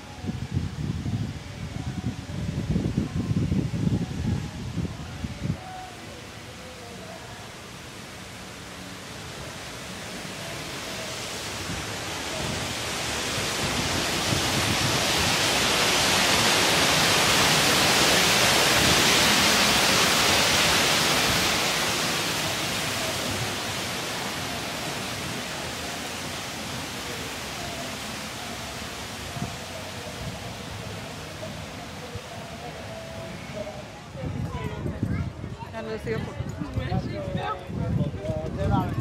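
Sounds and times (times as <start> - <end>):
rushing water: 0.0 - 34.5.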